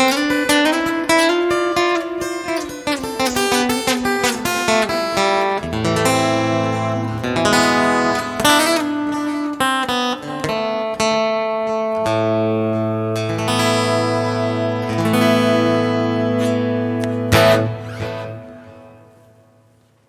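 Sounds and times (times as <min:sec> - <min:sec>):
electric guitar playing: 0:00.0 - 0:19.6.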